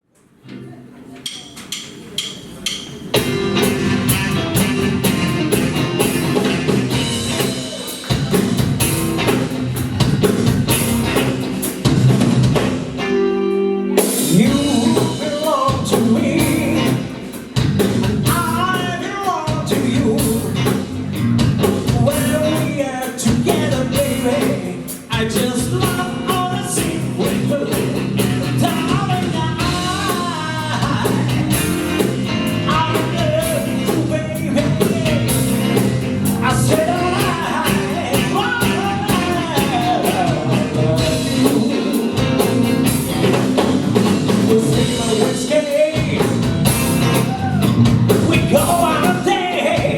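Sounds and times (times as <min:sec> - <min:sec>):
blues rock band playing: 0:02.6 - 0:49.9.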